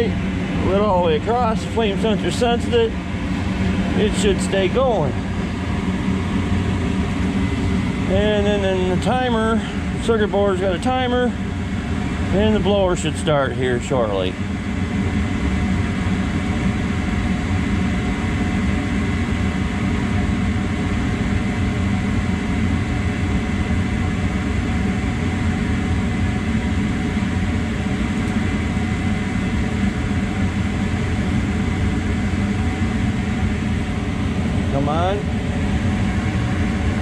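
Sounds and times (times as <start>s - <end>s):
gas furnace hum and rush: 0.0s - 37.0s.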